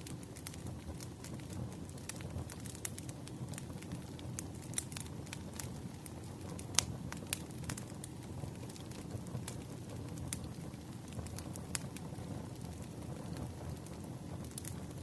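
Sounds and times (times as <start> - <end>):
fire crackling and popping: 0.0 - 15.0
low rumble of burning wood: 0.0 - 15.0.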